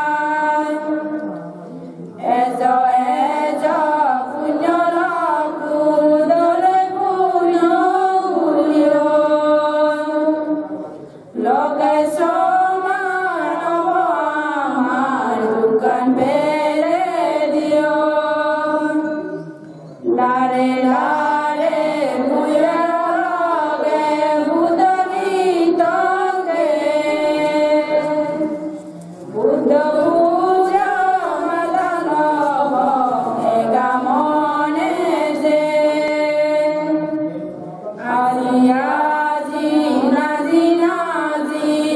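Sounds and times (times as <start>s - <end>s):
women chanting into a microphone: 0.0s - 41.9s.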